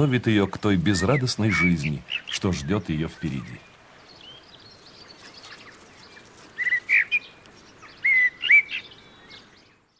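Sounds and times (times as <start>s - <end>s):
faint outdoor background: 0.0s - 9.9s
songbird chirping: 0.0s - 9.9s.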